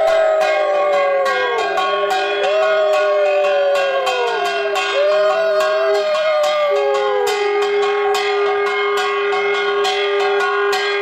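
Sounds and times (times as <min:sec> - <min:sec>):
conch shells blown: 0:00.0 - 0:11.0
hand bell ringing rapidly: 0:00.0 - 0:11.0.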